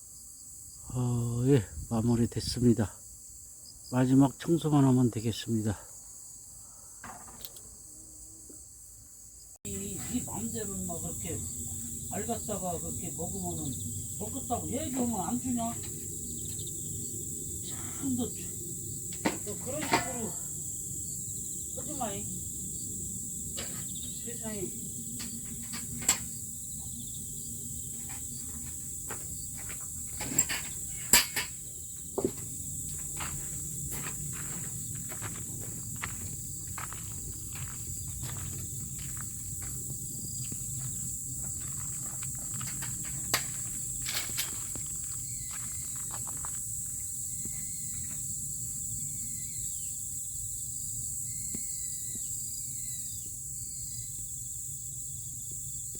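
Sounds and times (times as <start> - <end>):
crickets chirring: 0.0 - 55.9.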